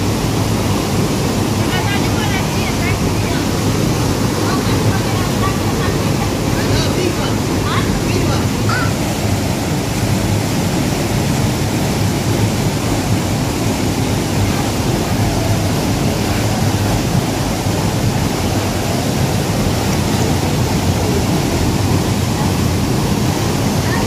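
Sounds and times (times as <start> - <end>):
waterfall and river rapids rushing: 0.0 - 24.0.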